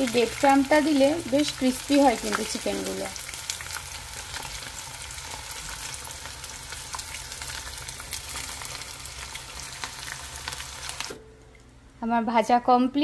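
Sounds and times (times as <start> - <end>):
chicken deep-frying in oil: 0.0 - 11.2.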